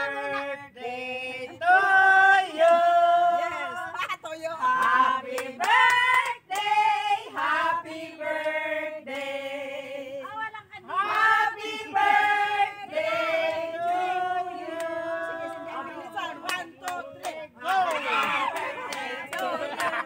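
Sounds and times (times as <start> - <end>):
group singing in unison: 0.0 - 4.0, 4.6 - 20.0.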